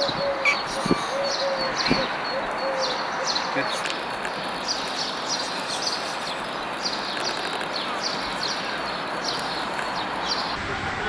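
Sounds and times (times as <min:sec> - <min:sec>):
small birds chirping: 0:00.0 - 0:10.6
outdoor background hiss: 0:00.0 - 0:11.0.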